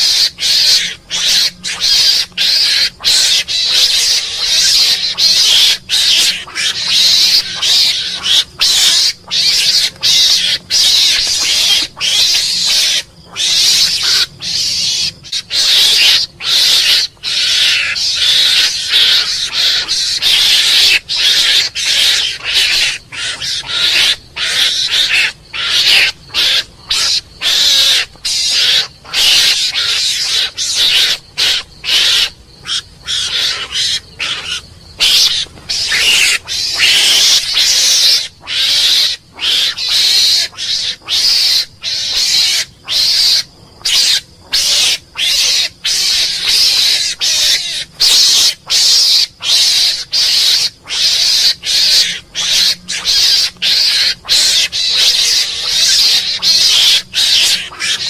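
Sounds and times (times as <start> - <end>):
mongoose chattering calls: 0.0 - 58.0.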